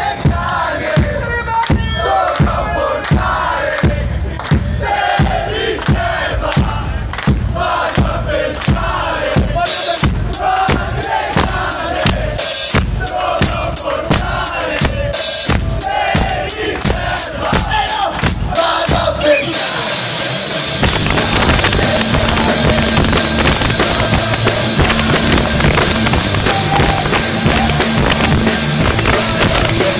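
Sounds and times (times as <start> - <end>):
bass drum beat: 0.0 - 19.2, 20.8 - 29.9
crowd chanting: 0.0 - 29.9
loud rock band playing: 0.0 - 29.9.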